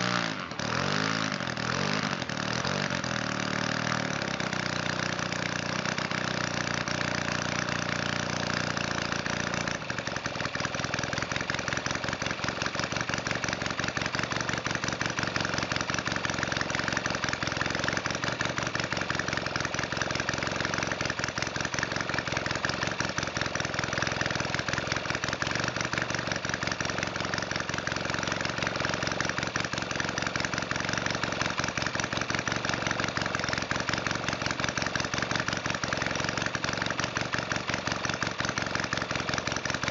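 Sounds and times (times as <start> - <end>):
model aircraft engine running: 0.0 - 39.9.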